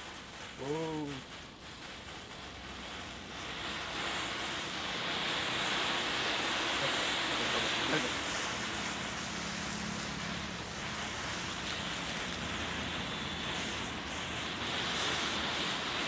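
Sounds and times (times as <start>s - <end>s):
matchsticks burning hiss: 0.0s - 16.0s.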